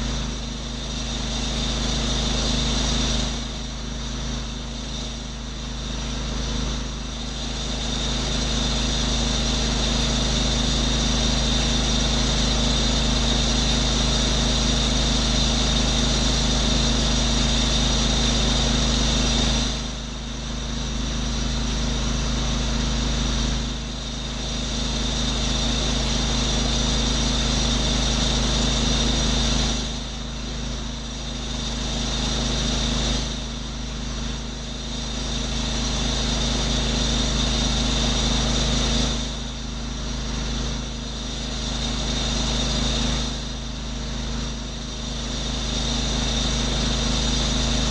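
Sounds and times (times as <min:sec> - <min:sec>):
pressure washer engine running: 0:00.0 - 0:47.9.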